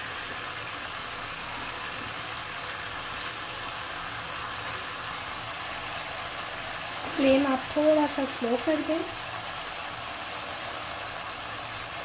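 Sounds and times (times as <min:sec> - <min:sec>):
chicken sizzling in a wok: 0:00.0 - 0:12.0.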